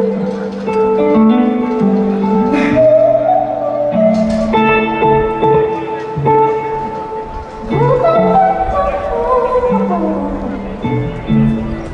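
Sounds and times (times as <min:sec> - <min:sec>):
guitar ringing notes: 0:00.0 - 0:11.9.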